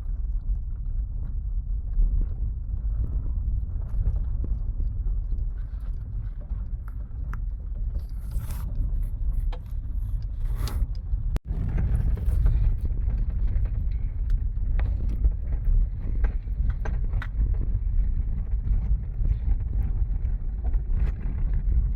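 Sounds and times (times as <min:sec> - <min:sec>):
car tyres rumbling on gravel: 0:00.0 - 0:21.9.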